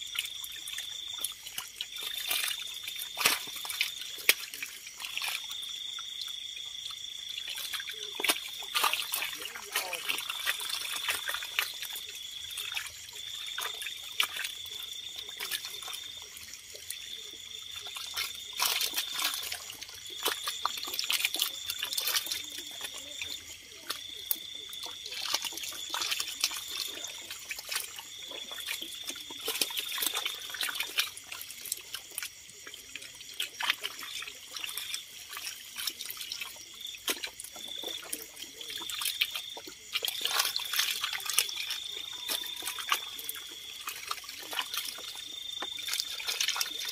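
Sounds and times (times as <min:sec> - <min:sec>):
fish flapping and splashing: 0:00.0 - 0:46.9
water trickling over rock: 0:00.0 - 0:46.9.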